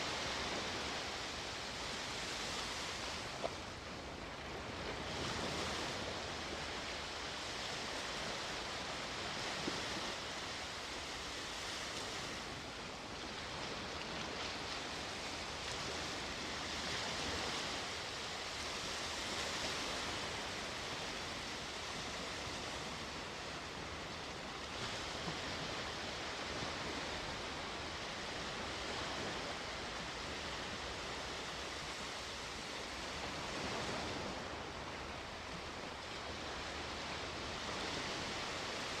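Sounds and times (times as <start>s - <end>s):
sea waves washing ashore: 0.0s - 39.0s.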